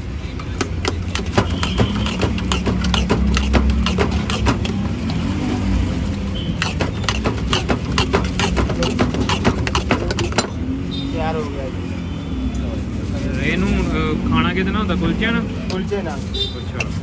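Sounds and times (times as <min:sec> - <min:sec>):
low hum of street noise: 0:00.0 - 0:17.0.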